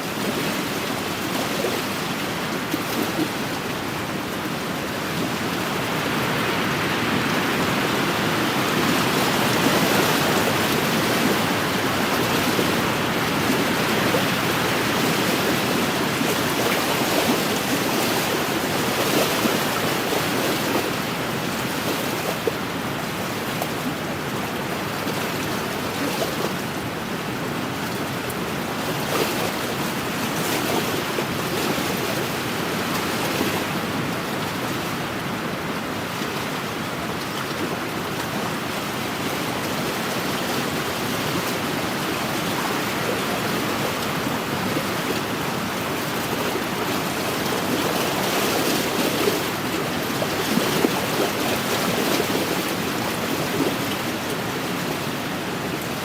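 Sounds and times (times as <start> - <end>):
waves lapping against shore: 0.0 - 56.0
wind: 0.0 - 56.0.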